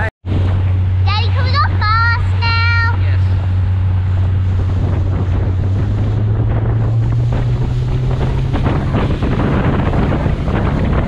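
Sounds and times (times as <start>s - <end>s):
boat engine drone: 0.0s - 11.0s
water rushing past hull: 0.0s - 11.0s
wind buffeting microphone: 0.0s - 11.0s.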